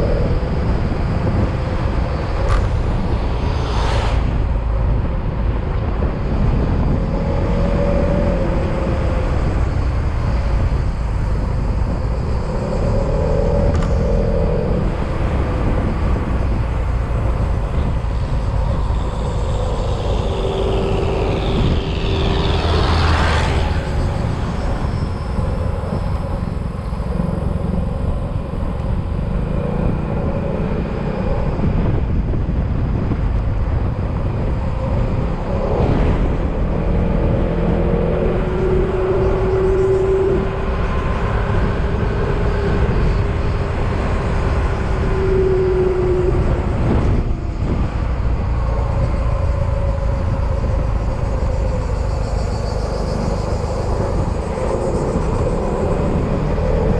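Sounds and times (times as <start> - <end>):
wind and road noise: 0.0 - 56.9.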